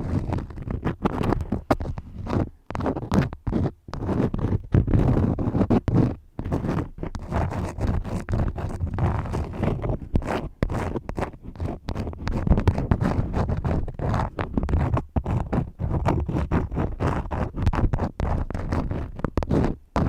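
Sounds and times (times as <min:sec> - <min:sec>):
crayon scribbling: 0:00.0 - 0:20.0.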